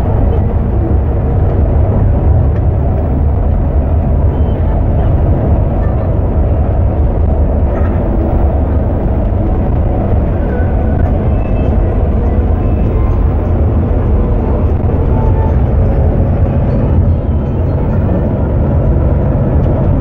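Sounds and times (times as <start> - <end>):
bus engine and tyre rumble: 0.0 - 20.0.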